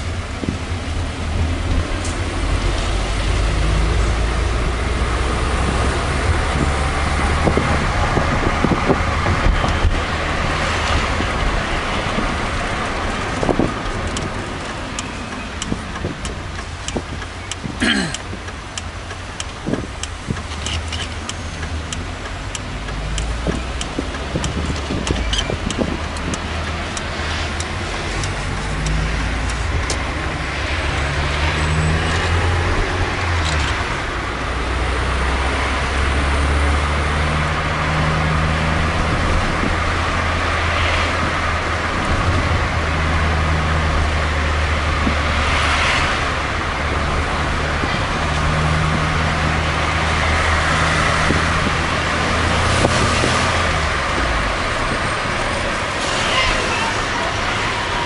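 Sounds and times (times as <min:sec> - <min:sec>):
car engine humming: 0:00.0 - 0:58.0
road and tyre noise: 0:00.0 - 0:58.0.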